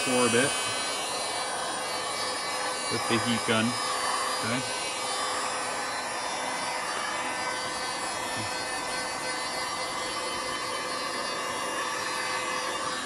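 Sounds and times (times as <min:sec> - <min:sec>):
faint motor whine: 0:00.0 - 0:13.0
heat gun fan blowing: 0:00.0 - 0:13.0.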